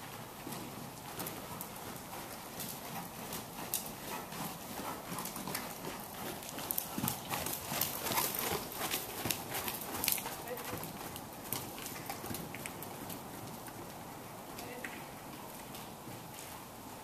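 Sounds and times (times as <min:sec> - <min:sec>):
horse trotting on dirt: 0:00.0 - 0:17.0.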